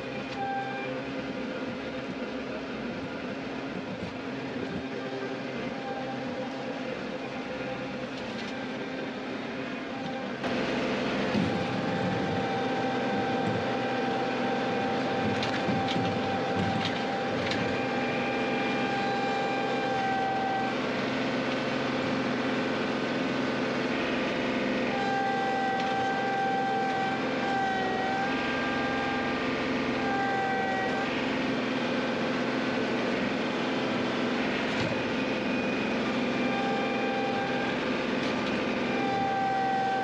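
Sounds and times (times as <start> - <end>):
steady high whine: 0.0 - 40.0
tractor diesel engine running: 0.0 - 40.0.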